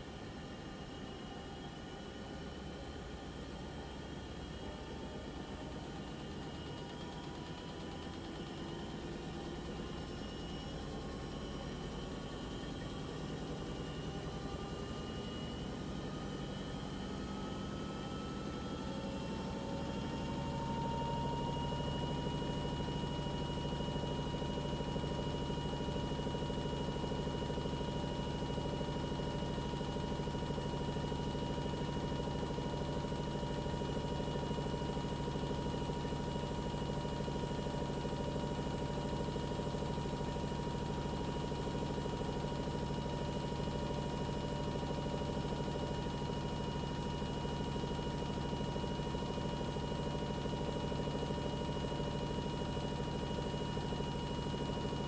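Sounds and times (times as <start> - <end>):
washing machine motor whine: 3.2 - 55.0.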